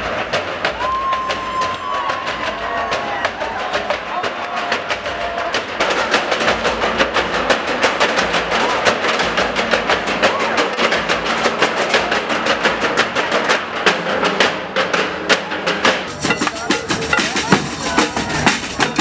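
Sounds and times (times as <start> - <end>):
drummers beating steel barrels: 0.0 - 19.0.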